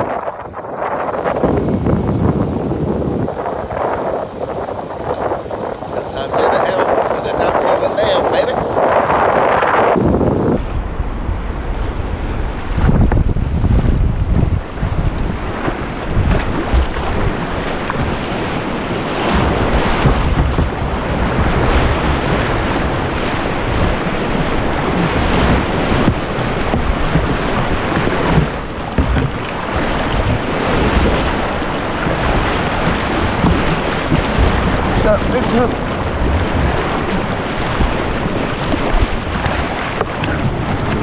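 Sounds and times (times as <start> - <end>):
whitewater rapids rushing: 0.0 - 10.7, 14.3 - 41.0
wind rumble on microphone: 0.0 - 41.0.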